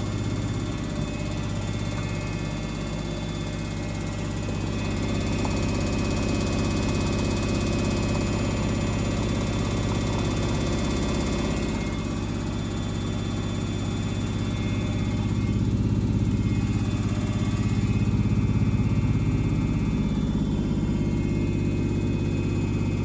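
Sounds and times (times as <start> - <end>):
washing machine motor humming: 0.0 - 23.0.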